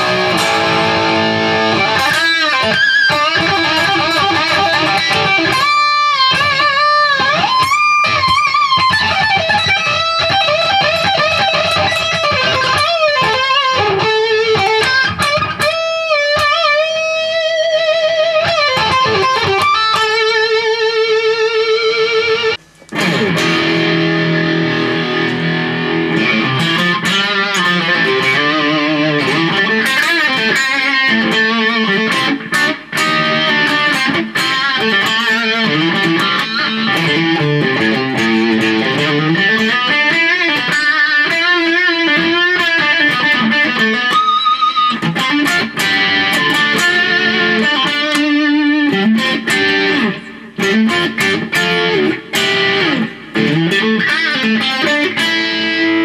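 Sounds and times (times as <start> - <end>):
distorted electric guitar lead: 0.0 - 56.0
electric guitar riffing: 0.0 - 56.0.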